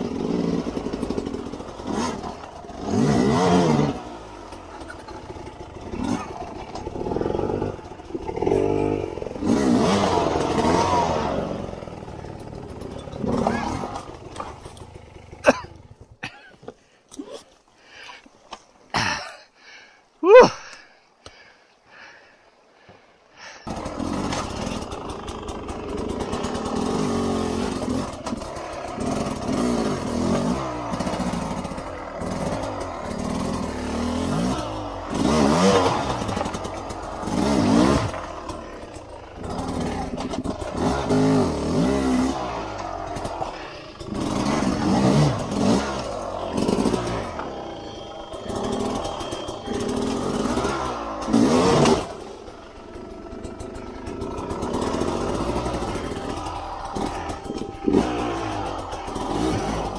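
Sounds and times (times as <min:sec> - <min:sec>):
motorbike engine revving: 0:00.0 - 0:16.5, 0:23.6 - 0:59.9.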